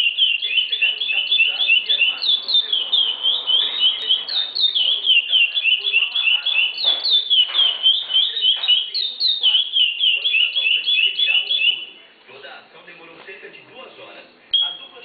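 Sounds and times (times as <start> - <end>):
songbird chirping: 0.0 - 12.1, 14.5 - 15.0.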